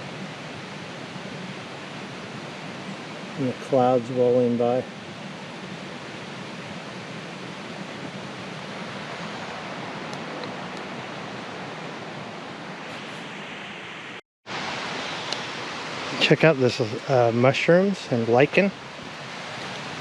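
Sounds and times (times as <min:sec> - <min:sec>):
creek rushing: 0:00.0 - 0:20.0.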